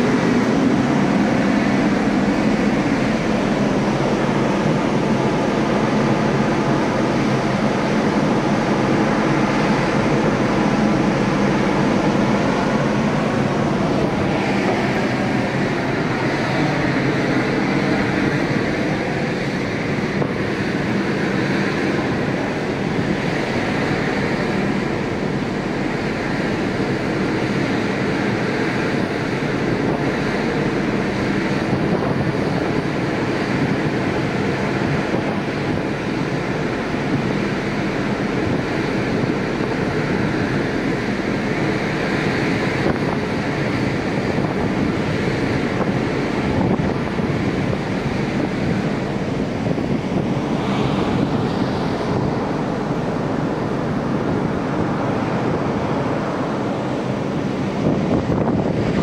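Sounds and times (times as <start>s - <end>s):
sea wash: 0.0s - 59.0s
ship engines droning: 0.0s - 59.0s
wind on microphone: 0.0s - 59.0s.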